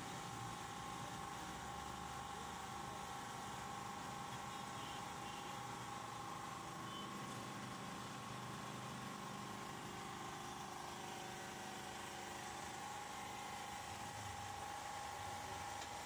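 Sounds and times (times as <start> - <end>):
photocopier hum and whine: 0.0 - 16.0.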